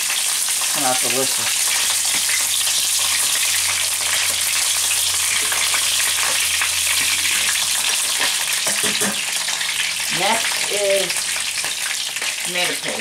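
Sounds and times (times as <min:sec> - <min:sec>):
sausages sizzling in pan: 0:00.0 - 0:13.0.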